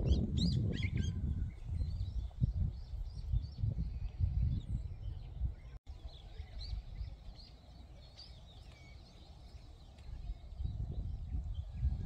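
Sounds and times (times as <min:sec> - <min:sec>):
small birds chirping: 0:00.0 - 0:12.0
wind buffeting microphone: 0:00.0 - 0:12.0.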